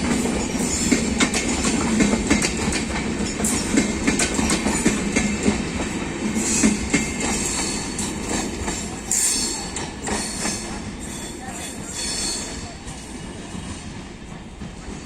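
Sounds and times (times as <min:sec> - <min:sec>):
train wheels knocking on rail joints: 0:00.0 - 0:15.0.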